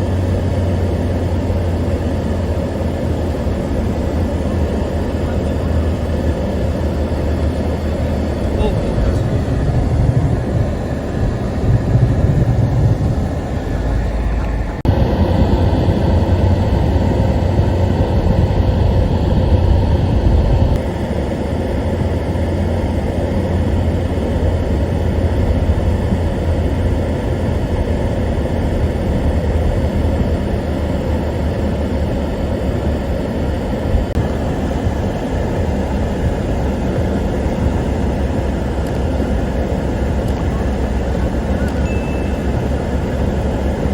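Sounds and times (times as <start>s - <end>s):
car engine and tyre noise: 0.0s - 43.9s.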